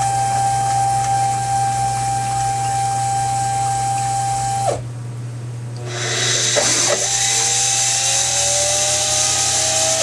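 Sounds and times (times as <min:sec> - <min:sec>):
spindle motor whine: 0:00.0 - 0:04.9, 0:05.8 - 0:10.0
low machine hum: 0:00.0 - 0:10.0.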